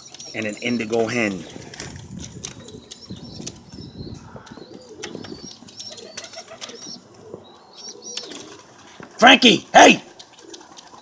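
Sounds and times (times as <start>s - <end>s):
pigeons cooing: 0.0s - 9.2s, 10.0s - 11.0s.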